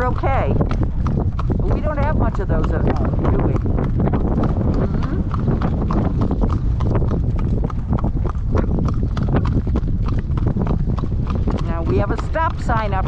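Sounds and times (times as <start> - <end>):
horse hooves on pavement: 0.0 - 13.0
steady low rumble: 0.0 - 13.0.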